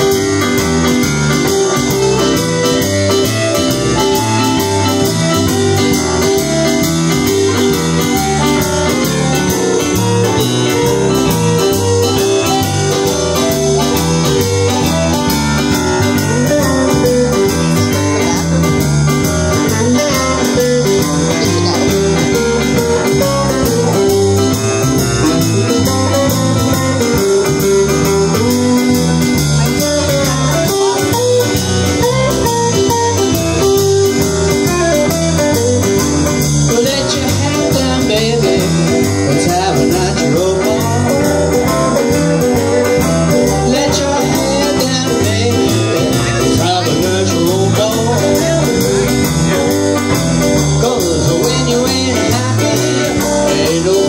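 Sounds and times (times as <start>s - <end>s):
blues band playing shuffle: 0.0s - 54.0s.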